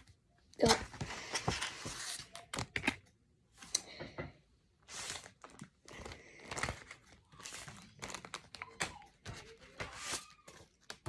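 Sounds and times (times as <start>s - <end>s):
crinkling and rustling objects: 0.0s - 11.0s.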